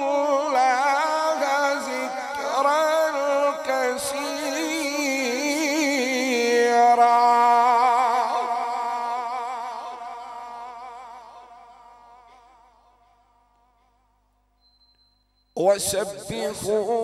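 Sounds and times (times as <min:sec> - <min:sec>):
man reciting chant: 0:00.0 - 0:14.2, 0:15.5 - 0:17.0.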